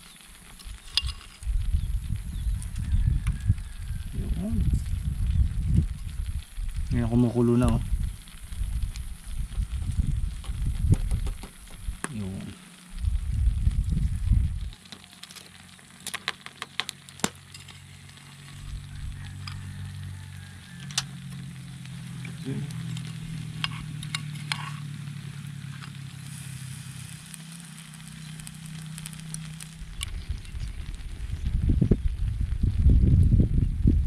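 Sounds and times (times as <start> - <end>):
food boiling and sizzling: 0.0 - 34.0
low steady hum: 0.0 - 34.0.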